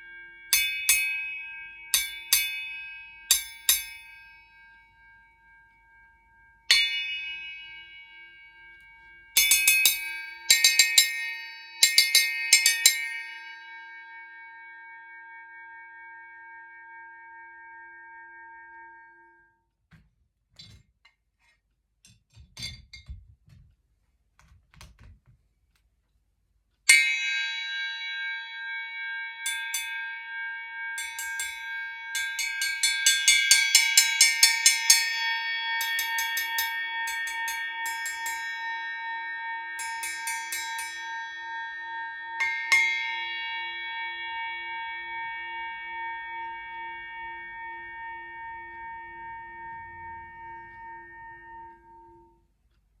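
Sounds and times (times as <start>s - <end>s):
bell struck and ringing: 0.0s - 19.5s, 26.9s - 52.4s.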